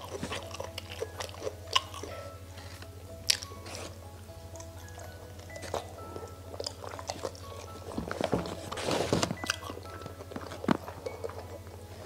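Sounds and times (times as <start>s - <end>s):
chewing with wet mouth clicks: 0.0s - 3.9s, 4.6s - 8.1s, 9.4s - 11.9s
soft background music: 0.0s - 12.0s.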